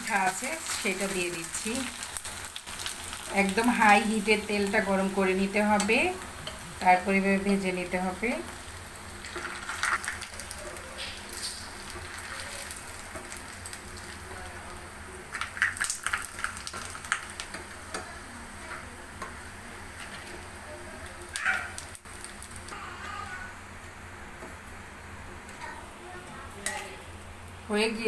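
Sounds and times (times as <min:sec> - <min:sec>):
food deep-frying in hot oil: 0:00.0 - 0:28.0.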